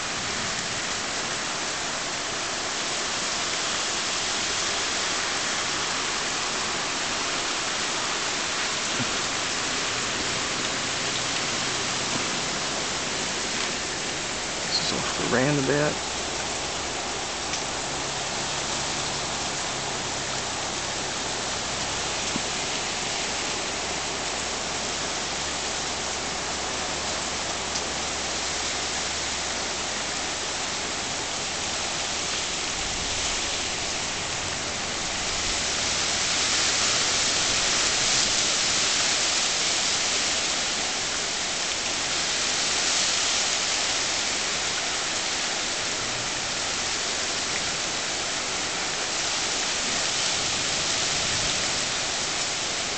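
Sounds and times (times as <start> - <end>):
torrential rain pouring: 0.0 - 52.9.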